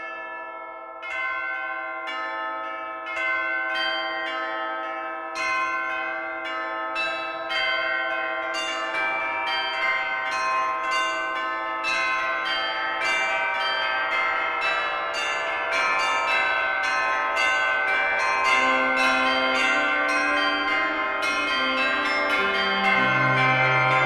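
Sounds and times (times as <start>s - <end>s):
bells ringing: 0.0s - 24.0s.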